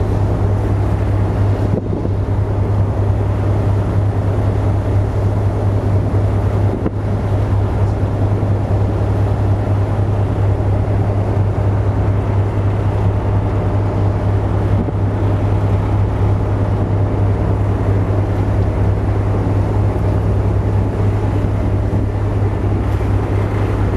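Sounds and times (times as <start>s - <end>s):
ferry engines droning: 0.0s - 23.9s.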